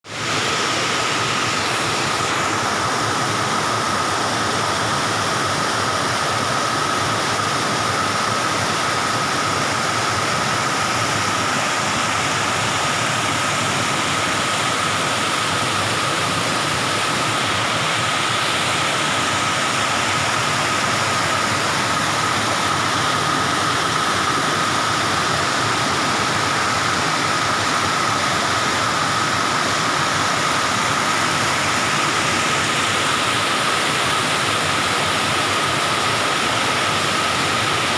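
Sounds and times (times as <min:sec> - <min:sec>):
waterfall roaring: 0:00.1 - 0:37.9.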